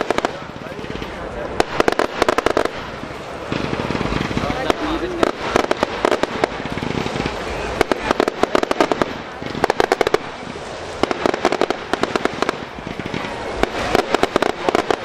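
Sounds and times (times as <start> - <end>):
fireworks crackling pops: 0.0 - 15.0.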